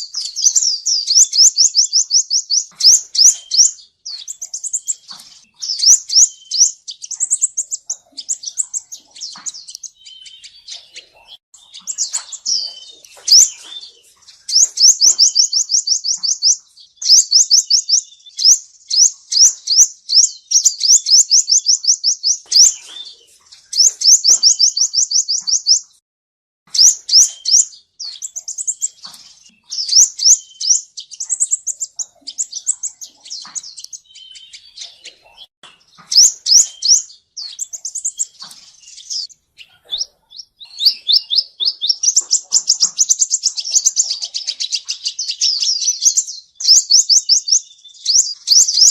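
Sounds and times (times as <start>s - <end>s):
bird chips: 0.0s - 26.0s, 26.7s - 48.9s
sunbird singing trills: 0.0s - 26.0s, 26.7s - 48.9s.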